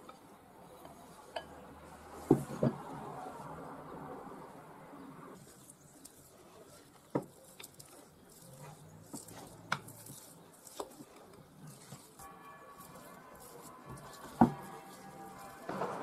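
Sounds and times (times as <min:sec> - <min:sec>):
spoon scraping and squishing mixture: 0:00.0 - 0:02.8, 0:05.4 - 0:16.0.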